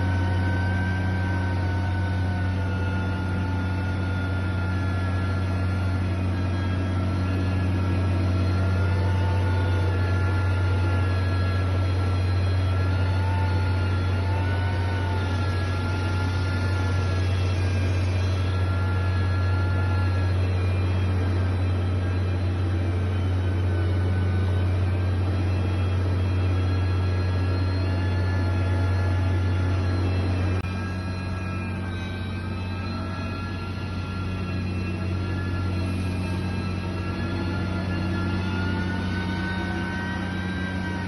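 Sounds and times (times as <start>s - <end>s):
heavy machinery engine droning: 0.0s - 41.0s.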